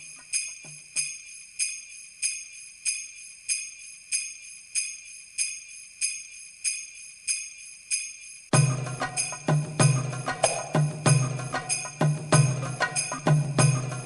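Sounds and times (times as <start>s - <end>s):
metallic bell-like chime: 0.0s - 14.0s.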